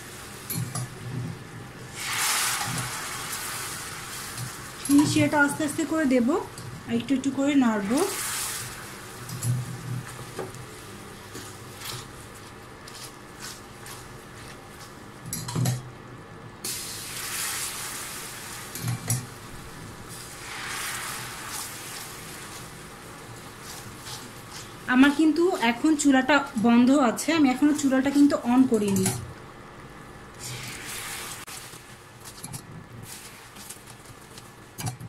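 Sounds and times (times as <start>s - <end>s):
caramel sizzling and bubbling: 0.0s - 35.0s.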